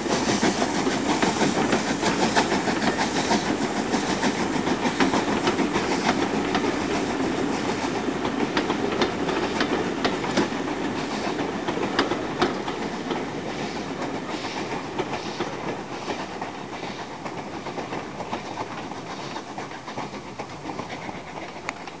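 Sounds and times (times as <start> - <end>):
train wheels clicking over rail joints: 0.0 - 22.0.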